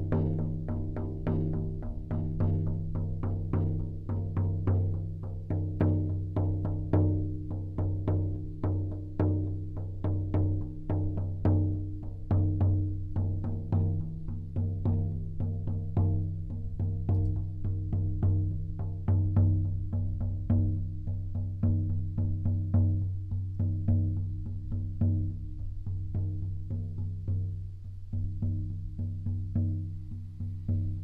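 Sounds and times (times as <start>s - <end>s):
large frame drum beaten: 0.0s - 31.0s.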